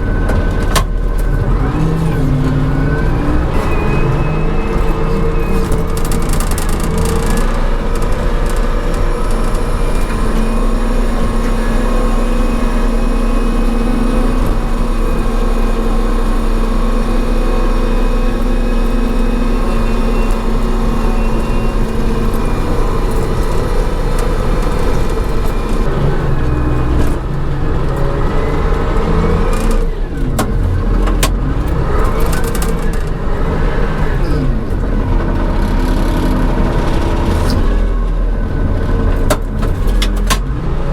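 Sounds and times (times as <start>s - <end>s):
wheel loader diesel engine running: 0.0s - 40.9s.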